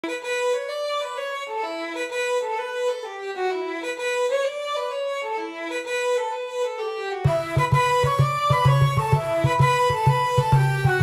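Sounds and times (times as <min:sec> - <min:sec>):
solo fiddle melody: 0:00.0 - 0:11.0.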